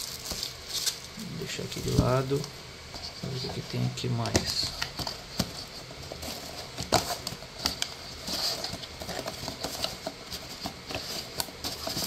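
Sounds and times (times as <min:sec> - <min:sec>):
cardboard box rustling: 0:00.0 - 0:12.0.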